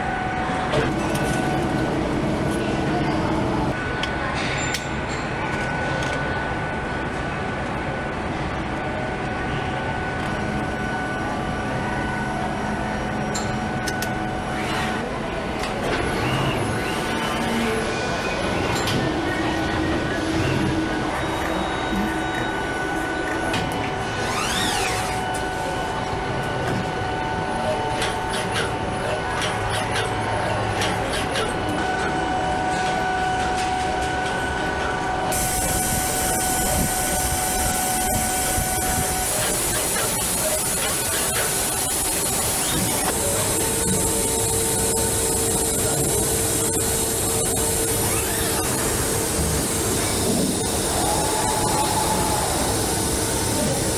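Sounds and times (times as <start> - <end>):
constant whine: 0.0 - 53.9
machinery hum: 0.0 - 53.9.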